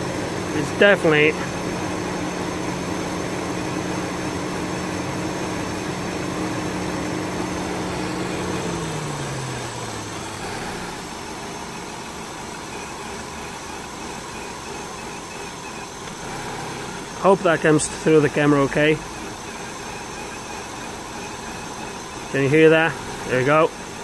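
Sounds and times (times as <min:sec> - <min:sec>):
car engine idling: 0:00.0 - 0:24.0
radiator cooling fan humming: 0:00.0 - 0:24.0.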